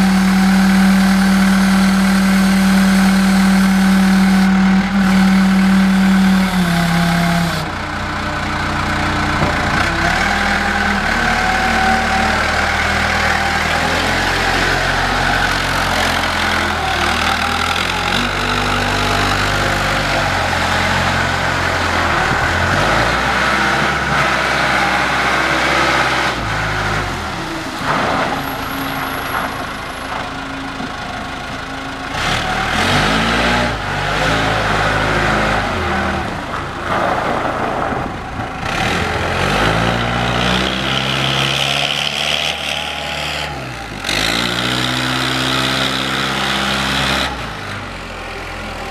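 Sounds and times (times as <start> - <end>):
forklift engine revving: 0.0 - 48.9.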